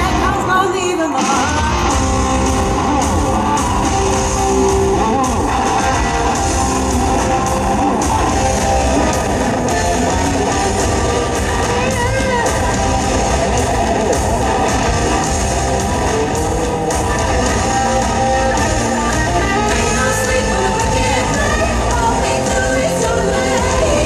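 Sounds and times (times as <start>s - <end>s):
loud guitar rock music: 0.0s - 24.0s.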